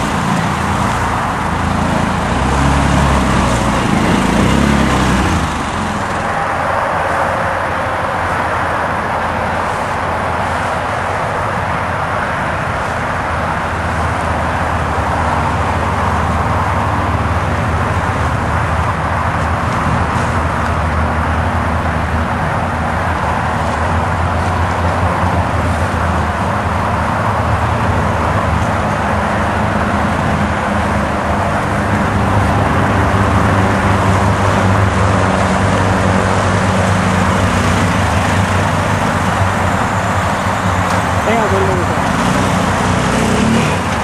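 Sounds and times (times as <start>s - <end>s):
utility vehicle engine running: 0.0s - 44.0s.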